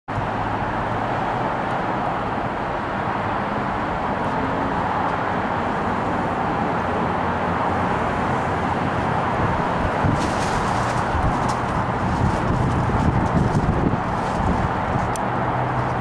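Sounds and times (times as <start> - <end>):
distant road traffic hiss: 0.1 - 16.0.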